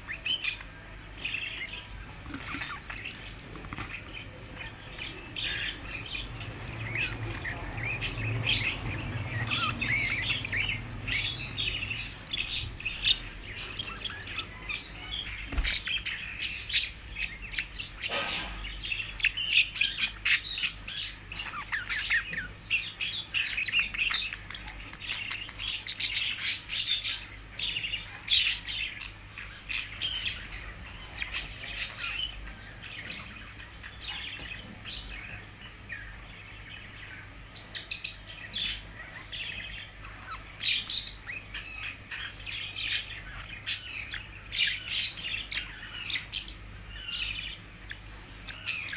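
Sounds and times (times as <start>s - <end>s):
budgerigars chirping: 0.0s - 48.9s.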